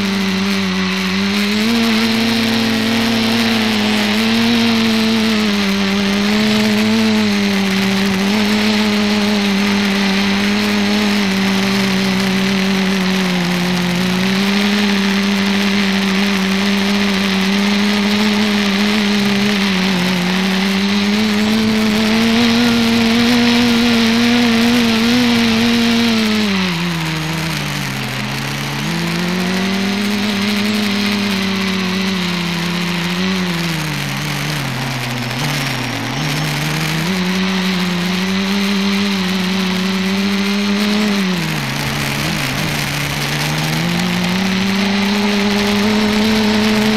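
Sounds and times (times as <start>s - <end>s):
drone motors and propellers buzzing: 0.0s - 46.9s.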